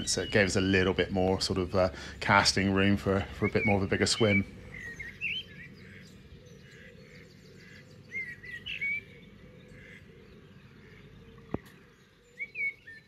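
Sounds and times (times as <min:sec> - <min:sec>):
low background rumble: 0:00.0 - 0:12.4
songbirds chirping: 0:00.0 - 0:13.0.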